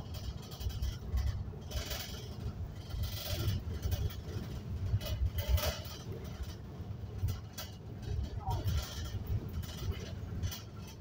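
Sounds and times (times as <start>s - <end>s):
bus engine and road rumble: 0.0s - 11.0s
rattling noises: 0.0s - 11.0s.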